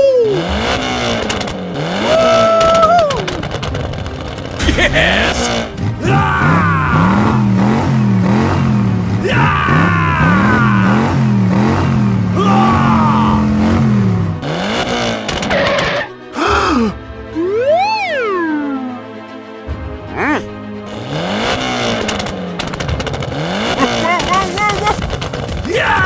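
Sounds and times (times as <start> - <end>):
vehicle engine revving: 0.0 - 16.3, 20.8 - 26.0.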